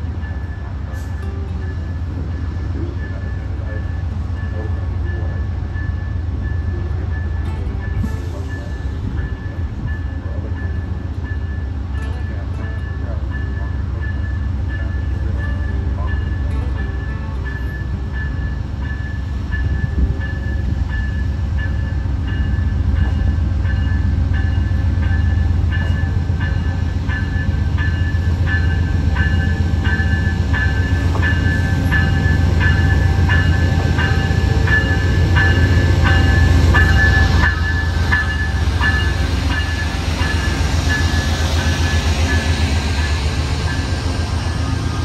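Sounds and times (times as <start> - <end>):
diesel locomotive engine rumbling: 0.0 - 45.0
locomotive bell ringing: 0.0 - 45.0.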